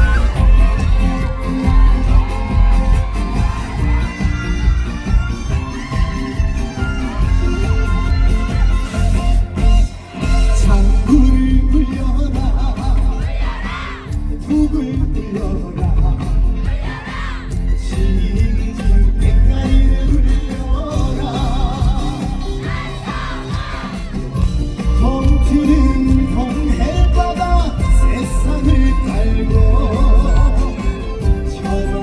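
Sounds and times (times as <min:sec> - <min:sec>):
crowd cheering and screaming: 0:00.0 - 0:32.0
live concert music with heavy bass: 0:00.0 - 0:32.0.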